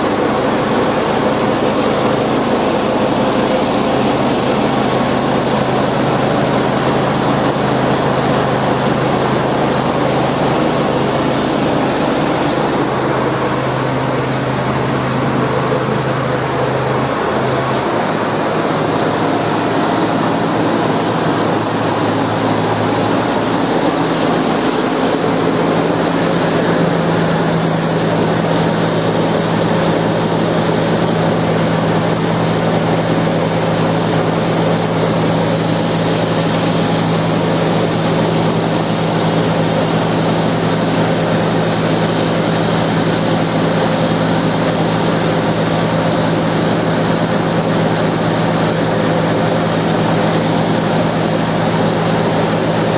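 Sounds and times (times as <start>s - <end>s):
constant hum: 0.0s - 52.9s
sawmill engine drone: 0.0s - 52.9s.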